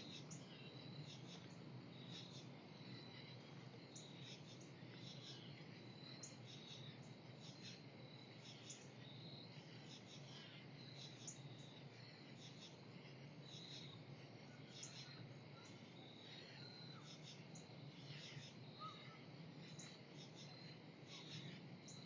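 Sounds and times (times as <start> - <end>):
faint insect chirring: 0.0 - 22.0
low steady hum: 0.0 - 22.0.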